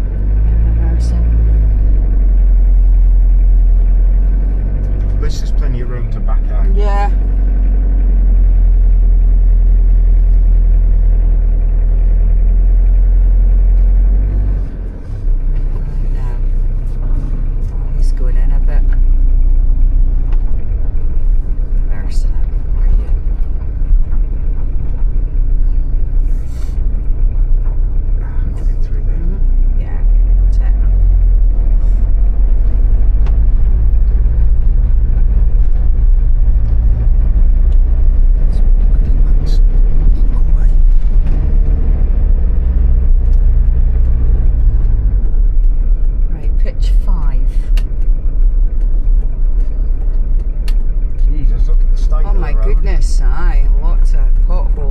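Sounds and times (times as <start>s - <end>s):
motorhome engine droning: 0.0s - 54.9s.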